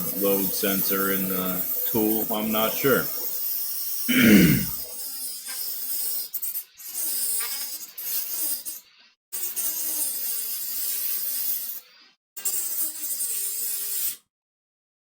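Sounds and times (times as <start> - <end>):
rotary tool cutting metal: 0.0 - 4.1, 4.7 - 14.3.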